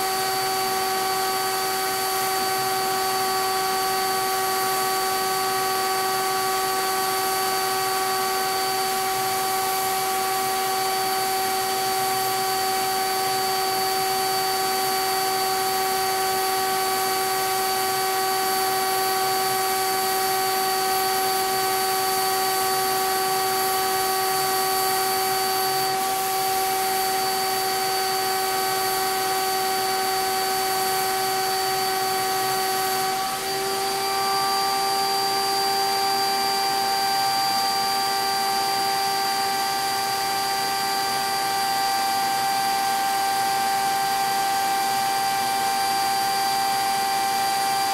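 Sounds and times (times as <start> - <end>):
paint sprayer turbine whine: 0.0 - 47.9.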